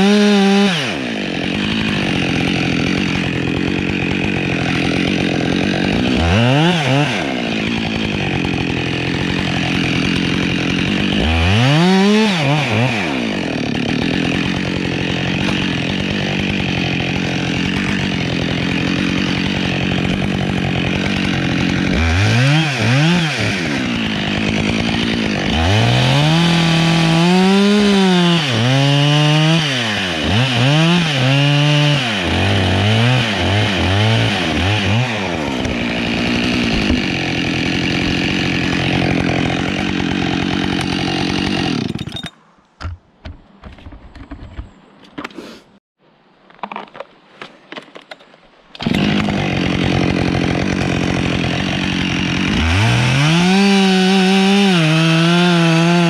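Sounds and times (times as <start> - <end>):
chainsaw idling and revving: 0.0 - 42.3, 48.8 - 56.0.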